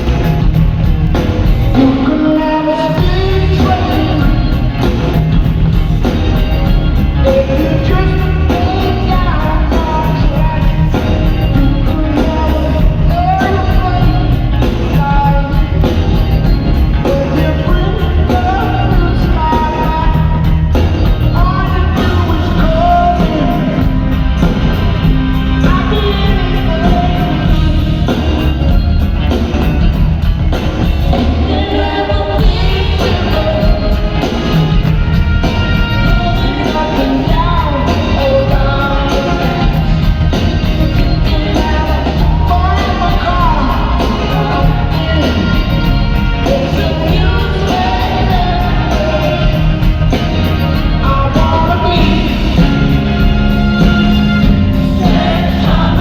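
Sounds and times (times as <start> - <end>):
pulsing bass line: 0.0 - 2.2, 3.0 - 56.0
man singing lead vocal: 0.0 - 28.8, 30.5 - 56.0
live rock band: 0.0 - 56.0.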